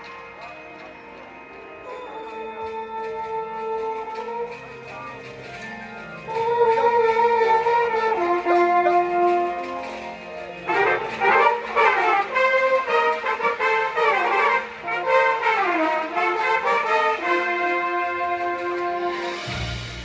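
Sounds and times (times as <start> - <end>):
marching band brass playing: 1.9 - 20.0.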